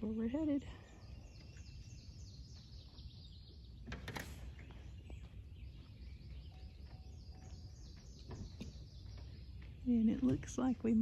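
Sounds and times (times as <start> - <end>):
small birds chirping and singing: 0.0 - 11.0.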